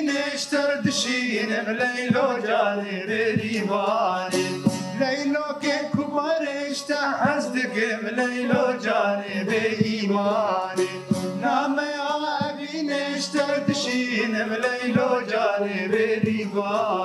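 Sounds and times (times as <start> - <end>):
lute strumming: 0.0 - 17.0
men singing: 0.0 - 17.0
plucked long-necked lute: 0.0 - 17.0.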